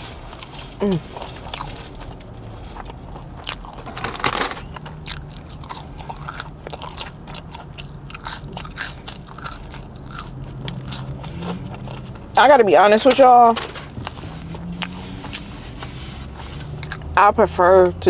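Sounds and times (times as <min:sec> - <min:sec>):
chewing with crunches: 0:00.0 - 0:17.5.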